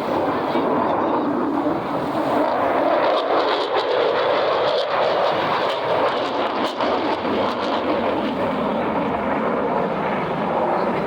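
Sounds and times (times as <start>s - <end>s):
jet fighter flying over: 0.0s - 11.0s.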